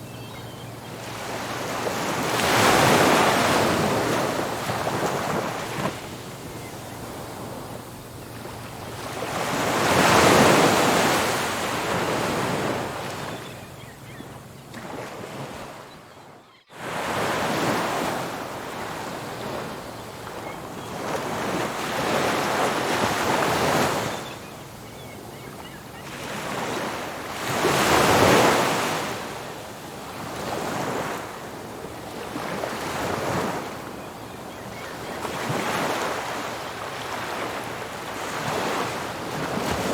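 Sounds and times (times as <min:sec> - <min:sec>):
waves breaking on a beach: 0:00.0 - 0:16.0, 0:16.7 - 0:24.5, 0:25.2 - 0:39.9.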